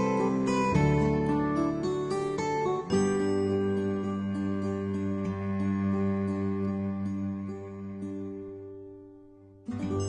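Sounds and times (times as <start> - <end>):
soft guitar-like background music: 0.0 - 10.0.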